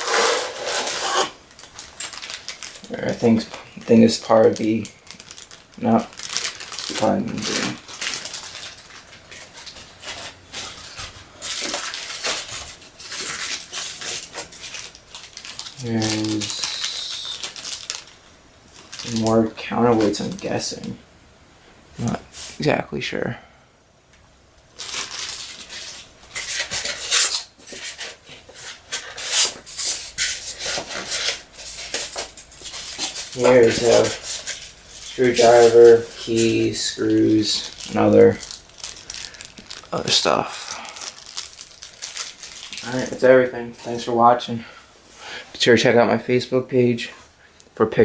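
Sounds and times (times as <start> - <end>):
packaging rustling and crinkling: 0.0 - 21.0, 24.7 - 44.5.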